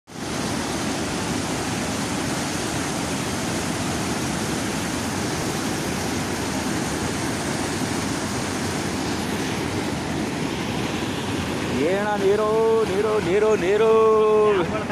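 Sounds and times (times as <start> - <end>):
floodwater rushing over spillway: 0.1 - 14.9.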